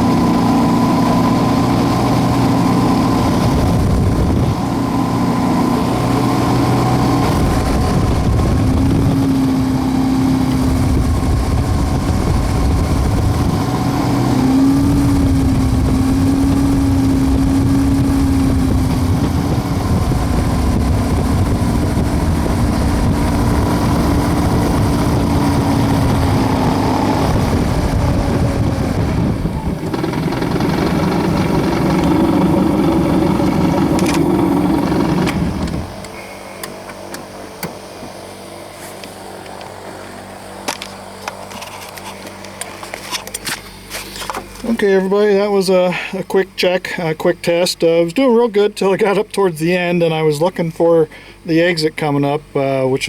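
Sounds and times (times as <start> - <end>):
piston aircraft engine running: 0.0 - 53.0.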